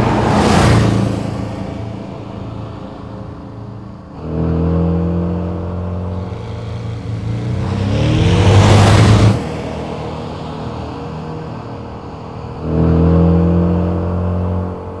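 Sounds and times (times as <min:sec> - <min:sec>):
car engine pulling under load: 0:00.0 - 0:15.0.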